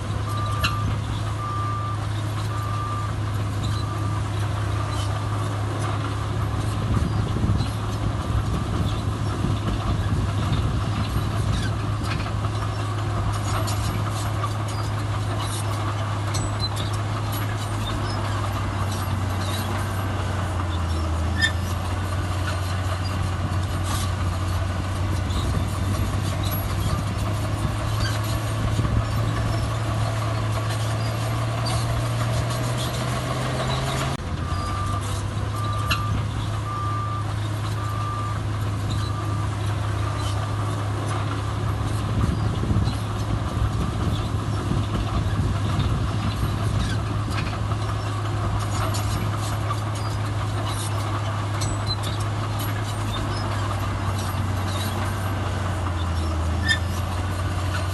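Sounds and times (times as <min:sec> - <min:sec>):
diesel machinery running: 0:00.0 - 0:57.9.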